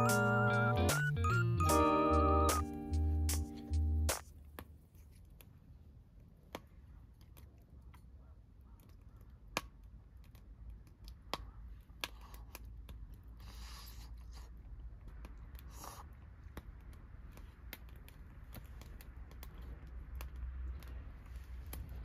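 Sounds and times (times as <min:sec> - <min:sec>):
quiet chewing: 0:03.4 - 0:22.0.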